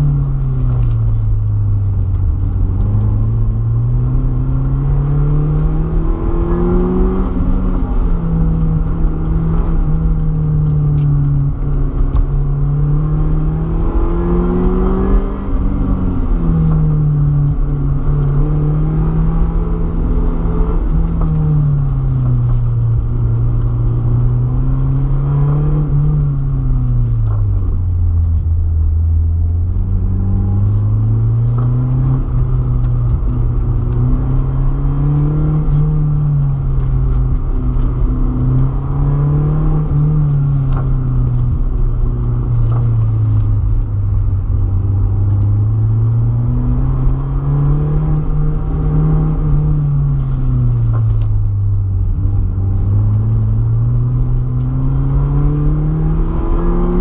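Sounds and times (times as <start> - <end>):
car engine revving: 0.0 - 57.0
road and tyre rumble: 0.0 - 57.0.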